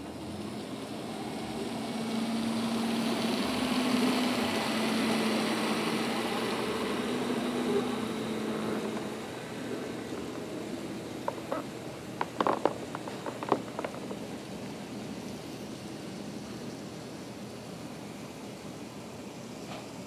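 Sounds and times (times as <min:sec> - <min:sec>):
model train motors whirring: 0:00.0 - 0:20.0
wheels rumbling on rails: 0:00.0 - 0:20.0.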